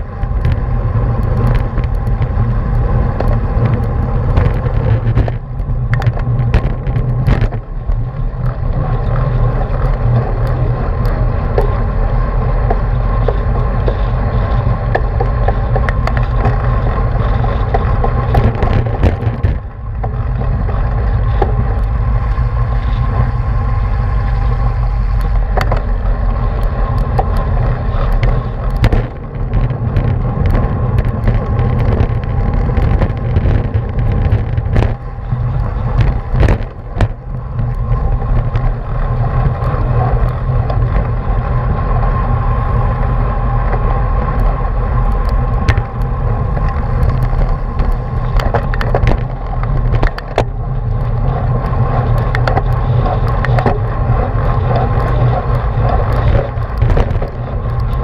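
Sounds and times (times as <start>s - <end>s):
bicycle rolling over pavement: 0.0s - 58.0s
wind buffeting microphone: 0.0s - 58.0s.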